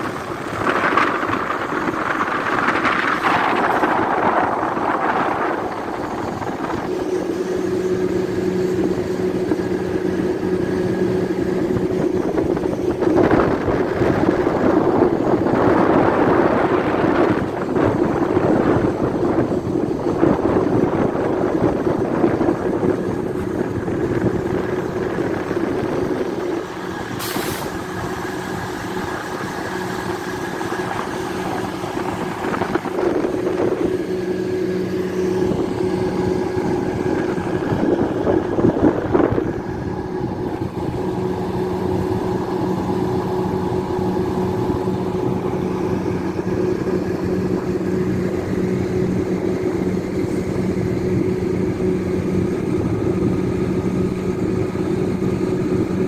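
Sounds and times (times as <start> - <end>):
engine droning: 0.0 - 56.0.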